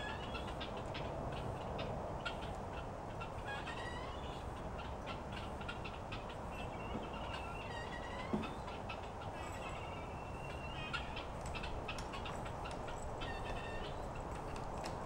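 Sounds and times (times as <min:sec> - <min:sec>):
guinea fowl calling: 0:00.0 - 0:14.6
steady background noise: 0:00.0 - 0:15.0.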